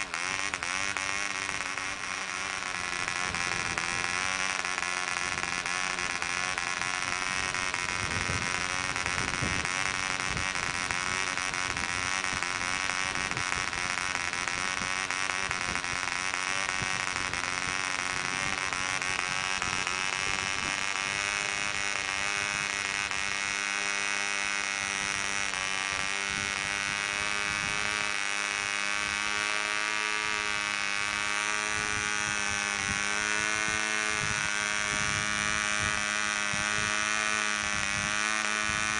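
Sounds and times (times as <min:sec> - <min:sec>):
model engine high buzz: 0:00.0 - 0:38.9.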